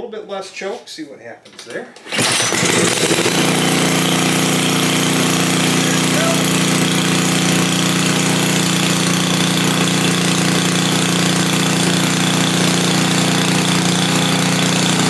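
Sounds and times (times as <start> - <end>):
snow blower engine running: 2.1 - 15.0.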